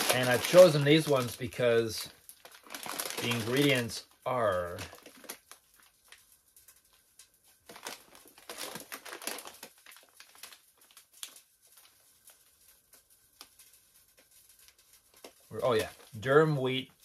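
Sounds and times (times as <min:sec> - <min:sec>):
plastic packet crinkling: 0:00.0 - 0:17.0.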